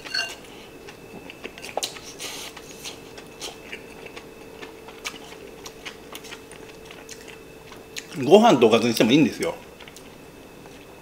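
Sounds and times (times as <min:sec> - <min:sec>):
person chewing: 0:00.0 - 0:08.2, 0:09.6 - 0:10.9
faint steady hum: 0:00.0 - 0:11.0.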